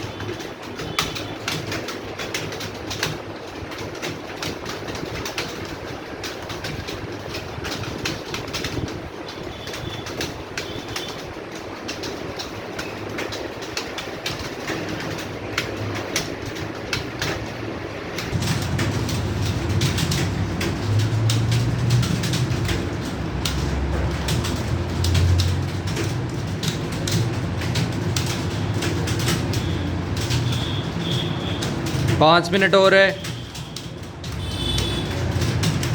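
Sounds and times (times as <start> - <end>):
keyboards clattering: 0.0 - 35.9.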